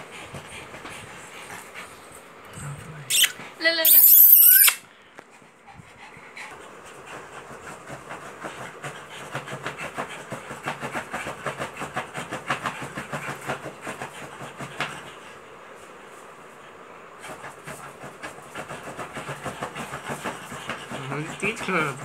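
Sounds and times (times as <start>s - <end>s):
dog panting: 0.0s - 2.4s, 5.2s - 22.0s.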